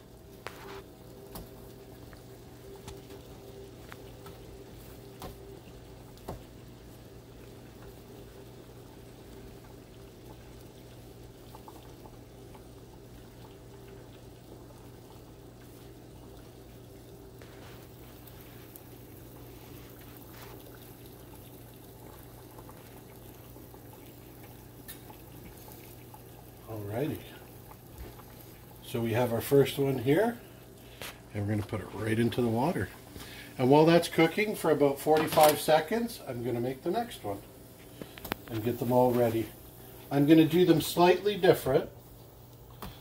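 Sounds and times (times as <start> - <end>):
pot of water boiling: 0.0 - 43.0.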